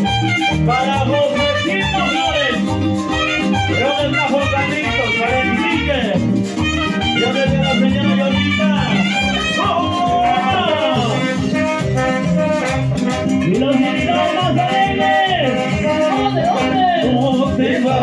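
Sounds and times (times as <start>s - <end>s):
saxophone: 0.0s - 17.0s
latin dance band playing: 0.0s - 18.0s
trombone: 0.0s - 18.0s.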